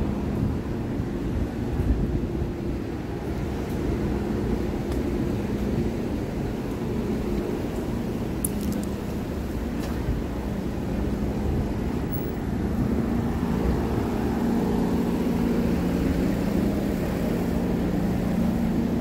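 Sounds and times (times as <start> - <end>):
train car rolling rumble: 0.0 - 19.0.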